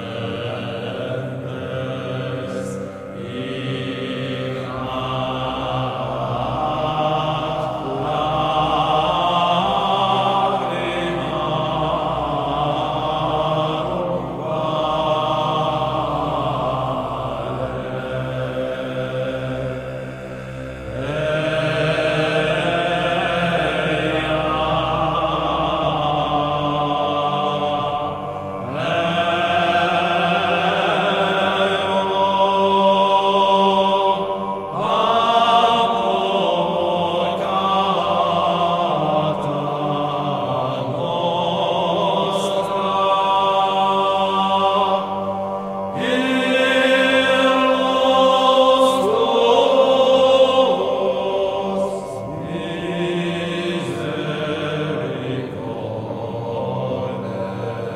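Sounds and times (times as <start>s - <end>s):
slow chant-like music: 0.0s - 57.9s.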